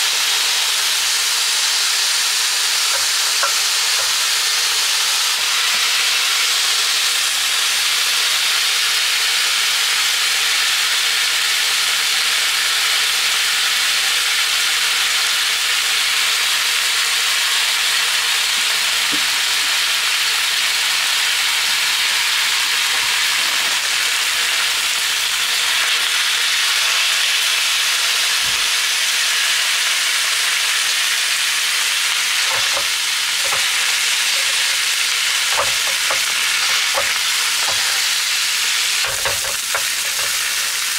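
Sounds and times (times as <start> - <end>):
meat sizzling on hot plate: 0.0 - 40.9.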